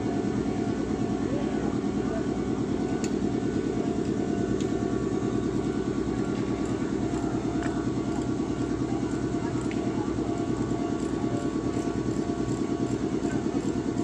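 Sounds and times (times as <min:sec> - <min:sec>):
faint steady whine: 0:00.0 - 0:14.0.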